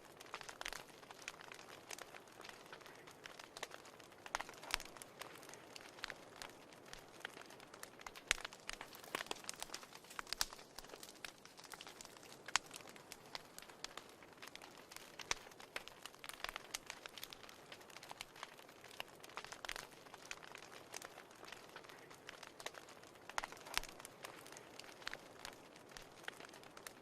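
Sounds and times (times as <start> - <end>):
fireplace fire crackling and popping: 0.0 - 27.0.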